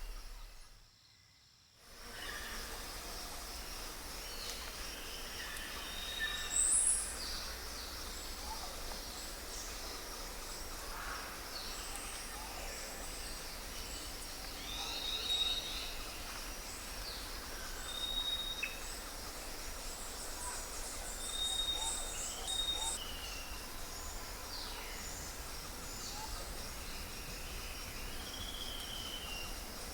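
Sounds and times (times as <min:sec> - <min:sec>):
outdoor background hiss: 0:00.0 - 0:29.9
wild birds chirping: 0:04.2 - 0:29.9.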